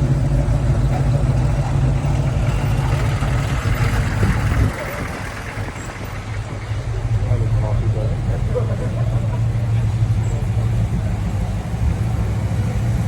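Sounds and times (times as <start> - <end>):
car engine rumbling driving by: 0.0 - 13.0.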